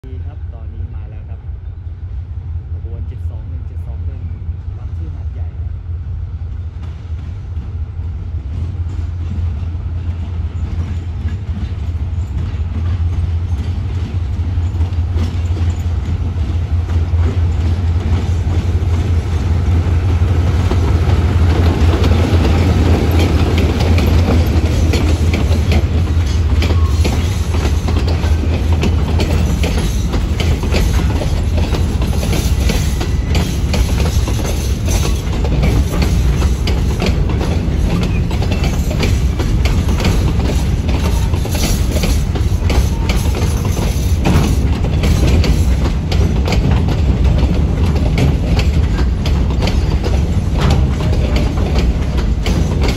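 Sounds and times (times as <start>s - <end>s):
locomotive engine drone: 0.1s - 52.9s
wheels clicking over rail joints: 10.0s - 52.9s.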